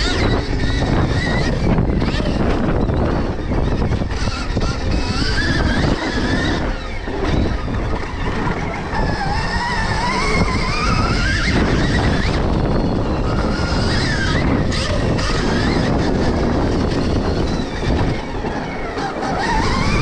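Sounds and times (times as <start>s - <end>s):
electric motorbike motor whining: 0.0s - 20.0s
rough riding rumble: 0.0s - 20.0s.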